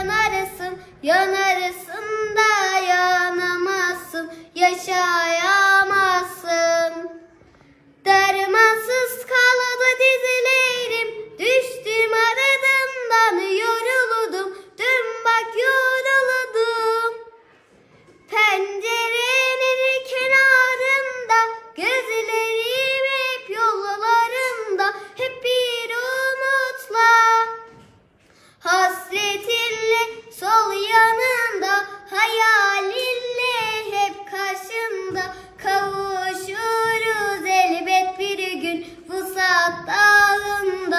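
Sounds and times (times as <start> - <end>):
girl singing unaccompanied: 0.0 - 17.4, 18.0 - 27.8, 28.5 - 40.9.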